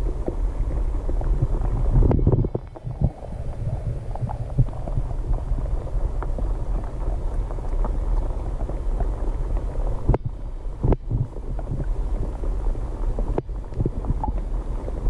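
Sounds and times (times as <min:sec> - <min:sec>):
underwater rumble of moving water: 0:00.0 - 0:15.0.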